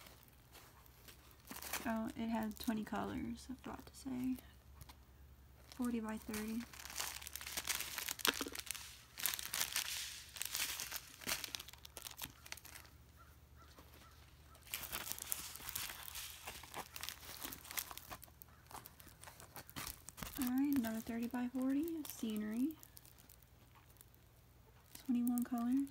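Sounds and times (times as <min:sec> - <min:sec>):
plastic packaging crinkling: 0:00.0 - 0:25.9.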